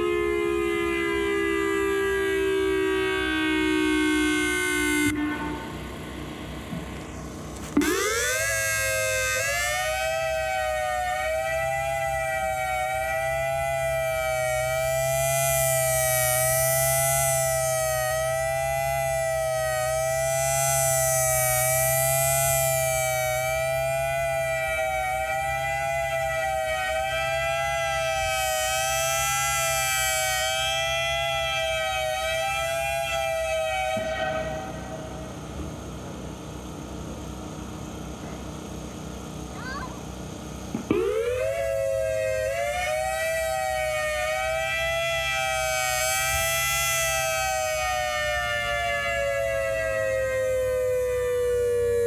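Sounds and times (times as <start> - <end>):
warning siren steady tone: 0.0 - 52.0.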